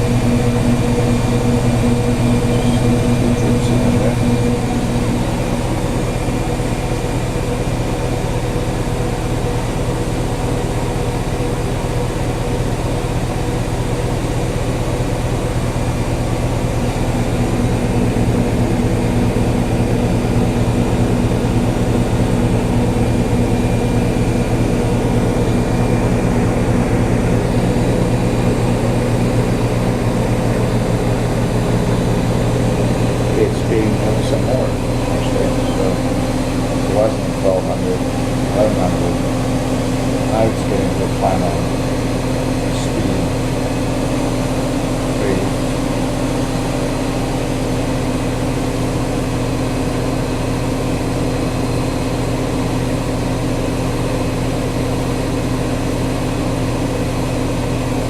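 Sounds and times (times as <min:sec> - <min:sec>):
washing machine drum spinning: 0:00.0 - 0:58.0.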